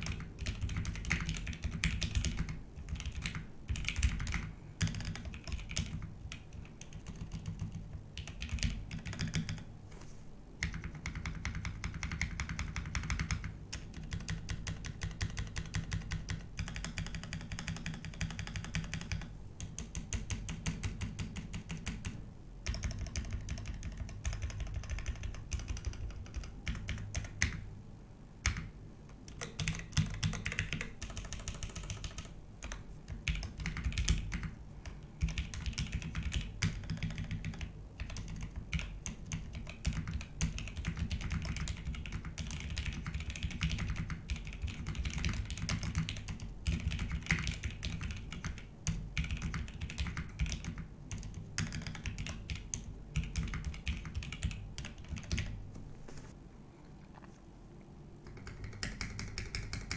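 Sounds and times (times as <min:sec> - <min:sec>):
typing on mechanical keyboard: 0:00.0 - 0:09.7, 0:10.6 - 0:27.6, 0:28.4 - 0:28.7, 0:29.3 - 0:55.6, 0:58.2 - 0:59.9.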